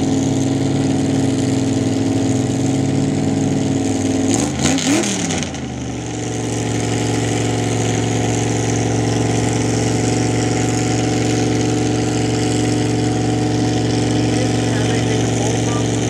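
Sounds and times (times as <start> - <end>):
truck engine revving and idling: 0.0 - 16.0.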